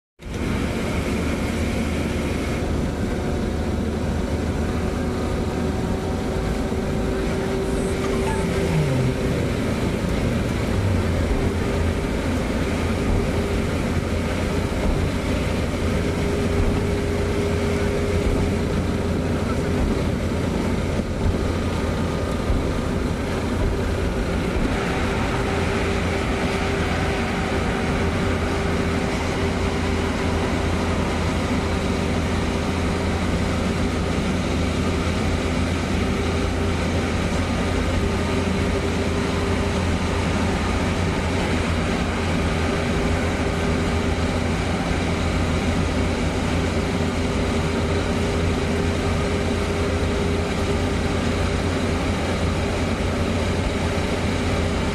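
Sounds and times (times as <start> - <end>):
car engine and tyre rumble: 0.2 - 54.9.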